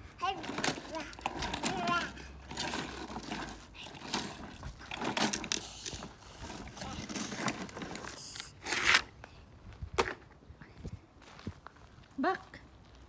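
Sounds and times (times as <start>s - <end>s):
gravel crunching under plastic wheels: 0.1s - 10.3s, 11.2s - 13.0s.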